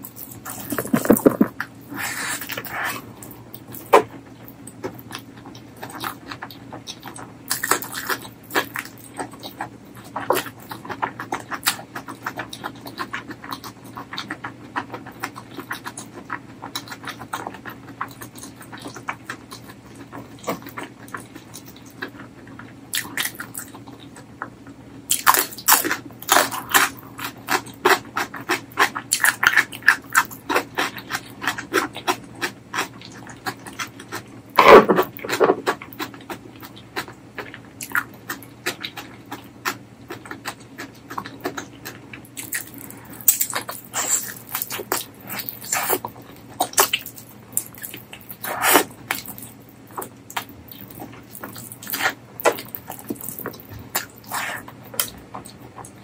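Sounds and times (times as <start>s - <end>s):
wet chewing and mouth clicks: 0.0s - 56.0s.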